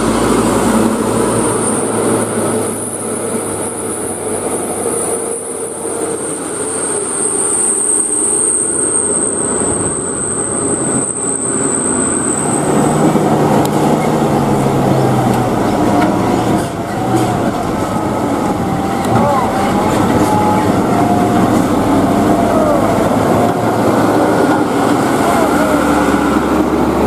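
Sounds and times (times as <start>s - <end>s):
diesel truck engine running: 0.0s - 7.0s, 7.6s - 27.0s.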